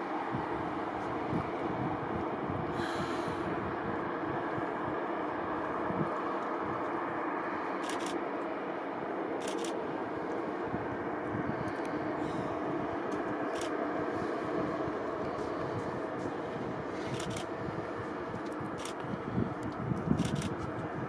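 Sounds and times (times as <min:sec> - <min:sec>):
distant jet engines rumbling: 0:00.0 - 0:21.0.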